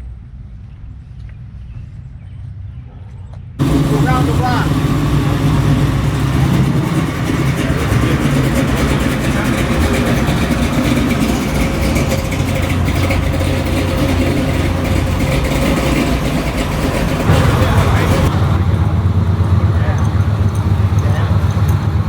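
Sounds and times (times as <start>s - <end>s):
car engine running: 3.6s - 22.0s.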